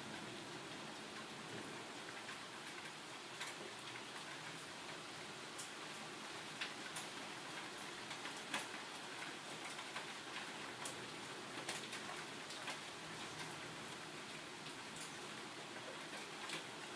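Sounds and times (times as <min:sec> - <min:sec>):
steady rain: 0:00.0 - 0:16.9.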